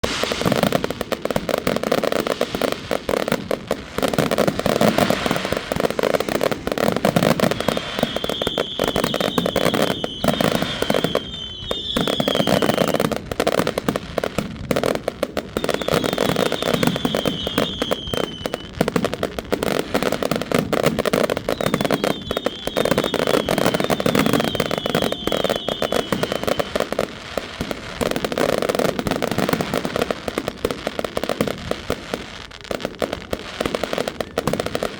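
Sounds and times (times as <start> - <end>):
fireworks crackling and banging: 0.0 - 34.9
fireworks falling whistles: 0.0 - 34.9.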